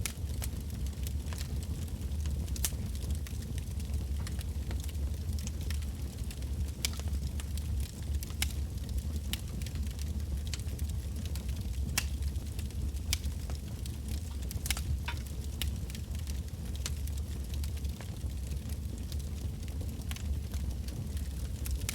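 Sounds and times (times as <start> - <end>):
low fire rumble: 0.0 - 21.9
wood fire crackling: 0.0 - 21.9.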